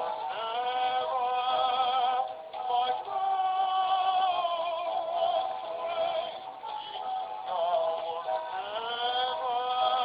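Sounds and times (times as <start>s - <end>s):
backing music: 0.0s - 10.0s.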